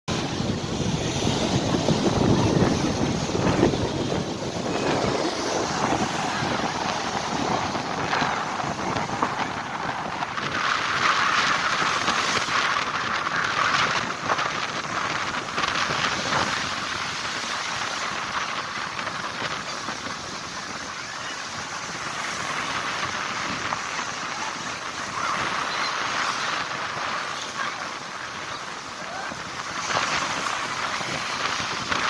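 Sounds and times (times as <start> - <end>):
sea surf washing ashore: 0.1 - 32.0.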